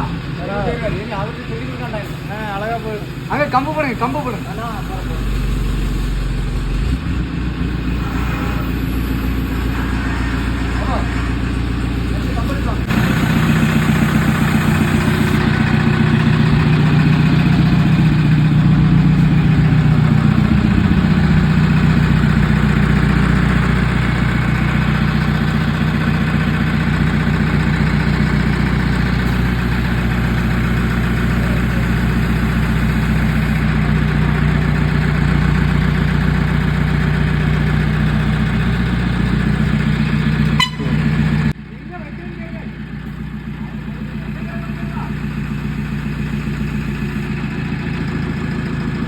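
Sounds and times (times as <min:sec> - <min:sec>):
engine running loudly: 0:00.0 - 0:41.6.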